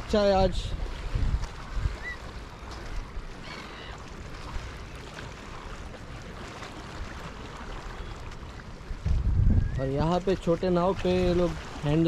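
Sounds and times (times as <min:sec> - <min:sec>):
wind rumbling on microphone: 0:00.0 - 0:03.4, 0:04.2 - 0:12.0.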